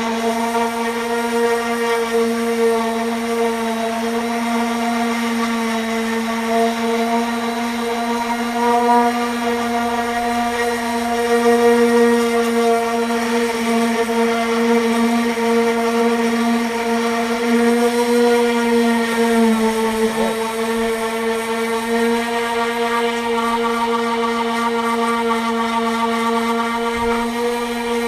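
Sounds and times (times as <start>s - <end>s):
power sander whining: 0.0s - 28.0s.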